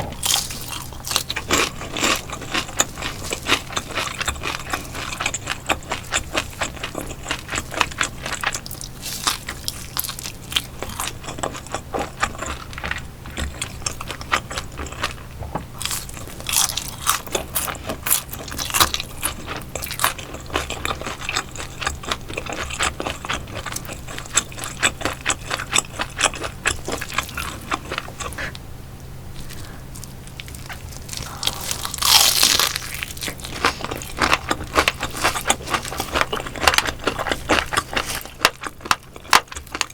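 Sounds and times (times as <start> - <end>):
crunching and chewing crispy fish: 0.0 - 39.9.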